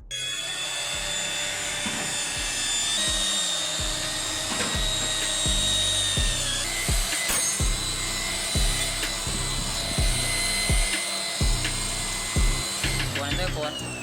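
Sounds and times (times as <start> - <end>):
background music with low beat: 0.0 - 14.0.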